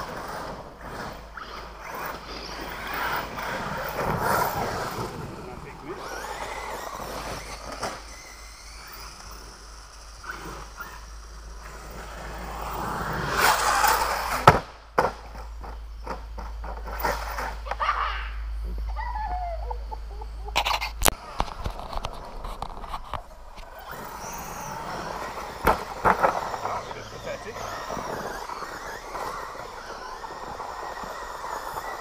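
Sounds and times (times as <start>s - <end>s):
toy car crashing: 0.0s - 17.9s, 20.6s - 32.0s
toy car motor and tyres: 0.0s - 18.3s, 20.5s - 32.0s.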